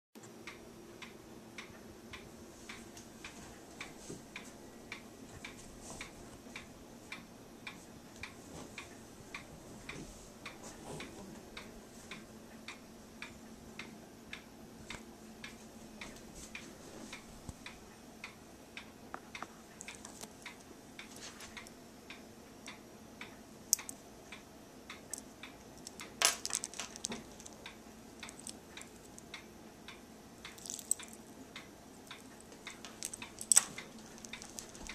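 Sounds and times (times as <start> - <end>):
clock ticking: 0.2 - 26.2, 26.9 - 34.9.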